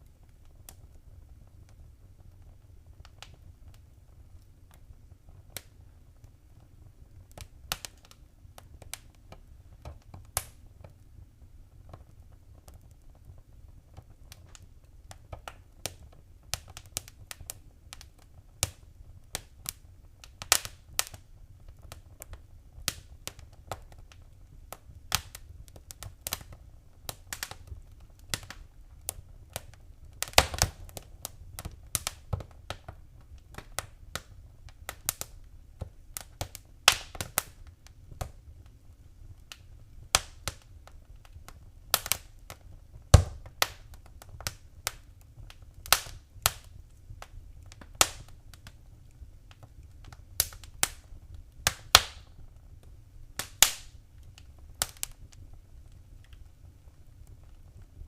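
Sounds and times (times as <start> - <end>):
low rumble of burning: 0.0 - 58.0
wood fire crackling and popping: 0.0 - 58.0.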